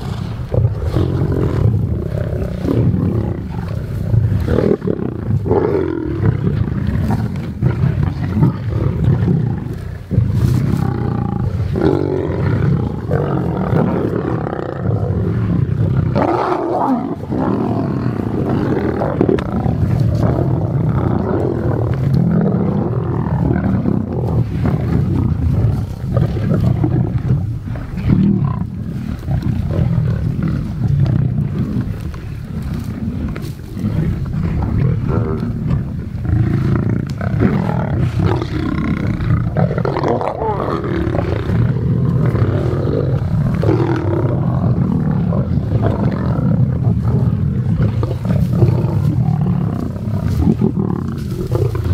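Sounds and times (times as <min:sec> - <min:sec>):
lions growling and snarling: 0:00.0 - 0:51.9.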